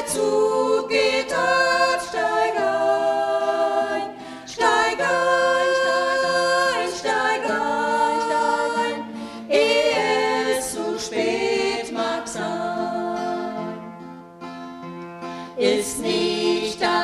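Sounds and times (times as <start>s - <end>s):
women singing in harmony: 0.0s - 13.9s, 15.5s - 17.0s.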